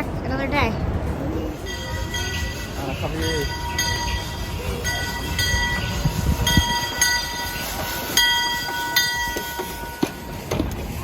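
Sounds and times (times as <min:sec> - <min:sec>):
train rumbling past: 0:00.0 - 0:11.0
locomotive bell ringing: 0:01.6 - 0:10.5.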